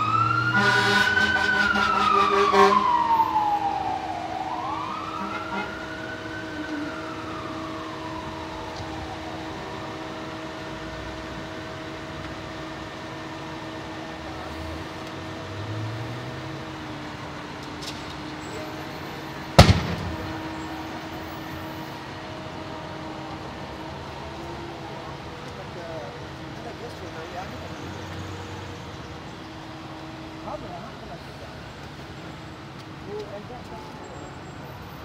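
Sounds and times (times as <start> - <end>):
fire truck siren winding down: 0.0 - 30.6
idling engines hum: 0.0 - 35.0.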